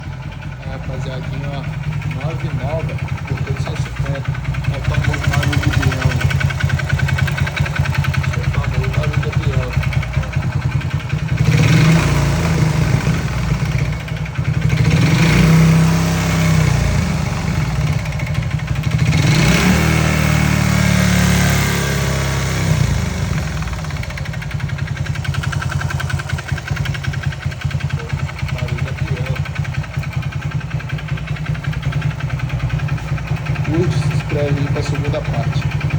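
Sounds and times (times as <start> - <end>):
engine knocking: 0.0 - 35.9
motorcycle engine revving and idling: 0.0 - 35.9.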